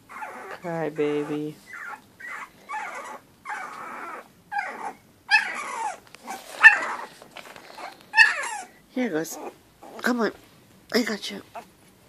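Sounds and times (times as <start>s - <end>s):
puppies crying: 0.0s - 10.1s.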